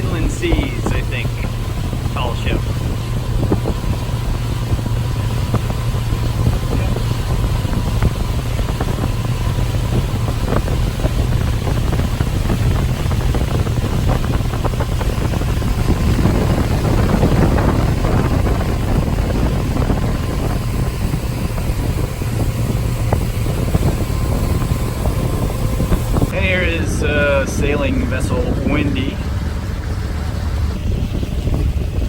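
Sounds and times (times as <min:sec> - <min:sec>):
boat engine rumbling: 0:00.0 - 0:32.0
wind buffeting microphone: 0:00.0 - 0:32.0.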